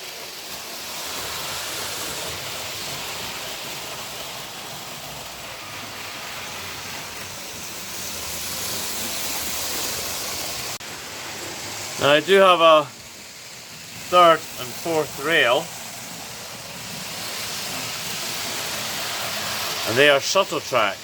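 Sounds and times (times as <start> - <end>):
model trains whirring: 0.0 - 21.0.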